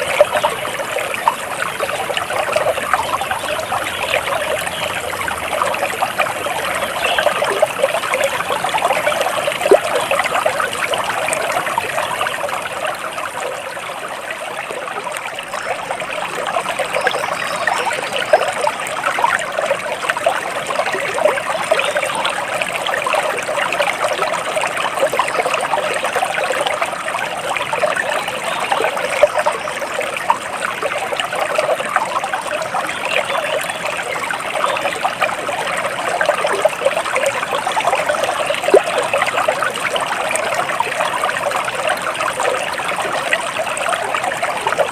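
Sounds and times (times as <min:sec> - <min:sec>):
water trickling over stones: 0:00.0 - 0:44.9.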